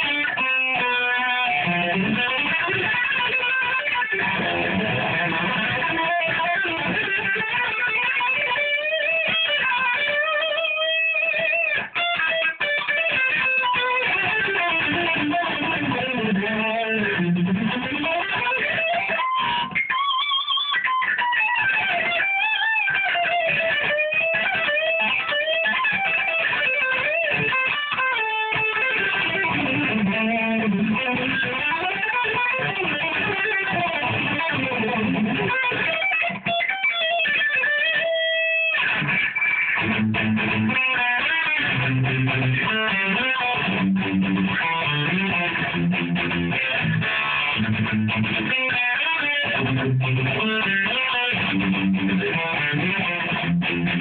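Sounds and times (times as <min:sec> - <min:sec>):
electric guitar solo: 0:00.0 - 0:54.0.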